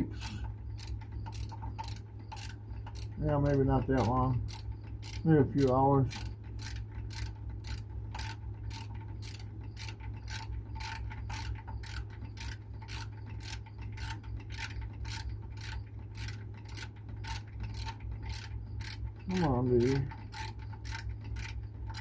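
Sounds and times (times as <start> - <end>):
ratchet wrench clicking: 0.0 - 22.0
steady low hum: 0.0 - 22.0.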